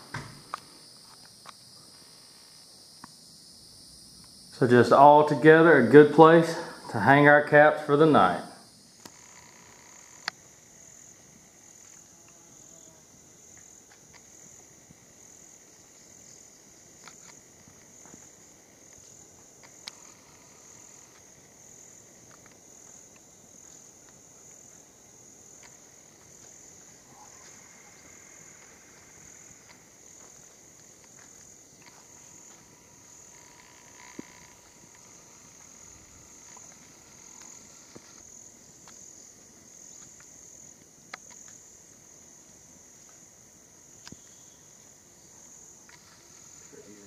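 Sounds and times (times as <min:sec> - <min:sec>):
insect chorus: 0:00.0 - 0:47.0.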